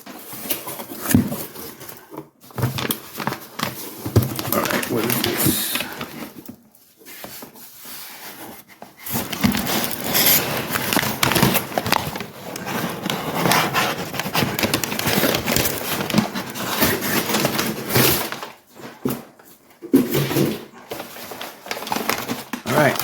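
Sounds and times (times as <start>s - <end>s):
packaging rustling and crackling: 0.0s - 23.0s.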